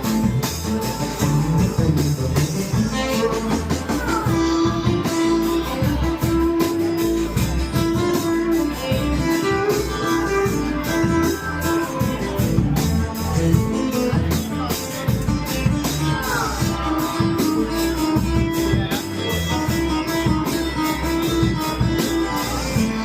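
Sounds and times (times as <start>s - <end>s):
guitar playing: 0.0s - 23.0s
steady drum beat: 0.0s - 23.0s.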